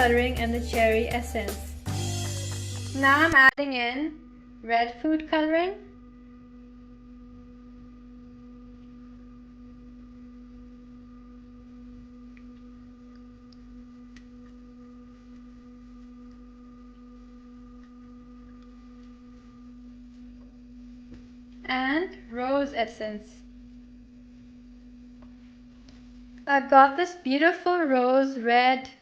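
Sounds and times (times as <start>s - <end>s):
faint low hum: 2.8s - 29.0s.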